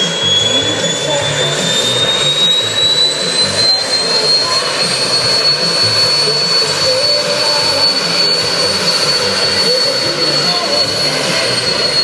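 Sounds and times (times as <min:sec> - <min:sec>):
jet engine rushing with whine: 0:00.0 - 0:12.0.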